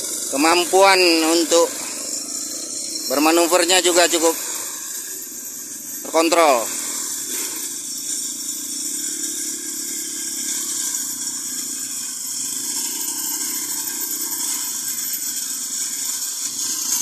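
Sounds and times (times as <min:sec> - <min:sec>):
brush cutter engine droning: 0:00.0 - 0:17.0.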